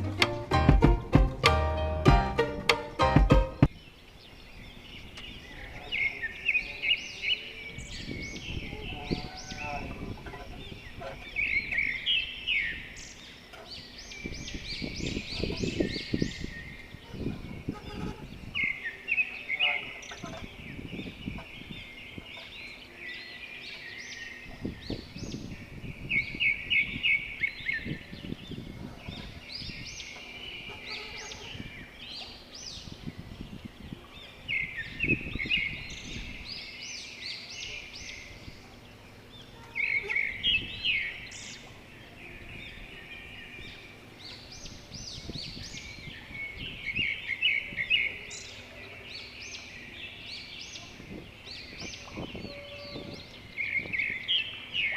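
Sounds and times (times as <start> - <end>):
birds chirping and singing: 0.0 - 54.9.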